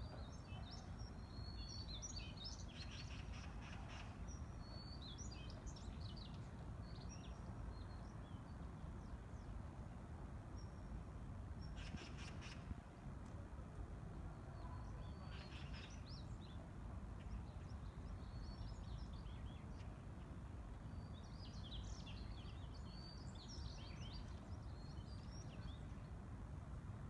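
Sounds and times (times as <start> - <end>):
city background hum: 0.0 - 27.0.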